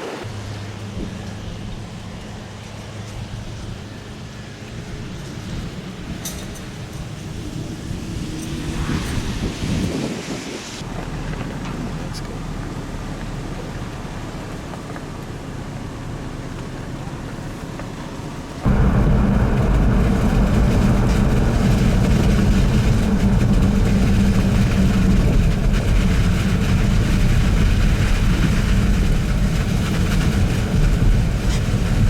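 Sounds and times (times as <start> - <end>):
wind rumble on microphone: 0.0 - 15.7, 16.4 - 32.0
strong wind and rain: 0.0 - 32.0.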